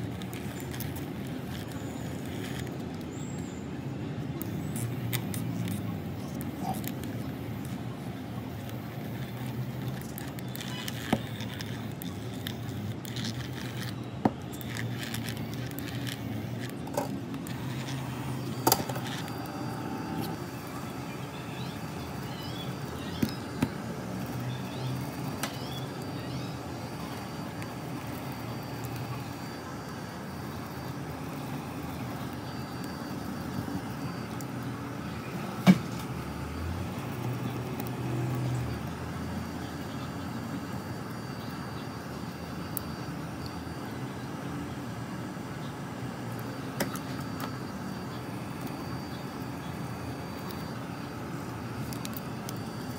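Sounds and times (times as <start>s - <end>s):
low background hum: 0.0s - 52.9s.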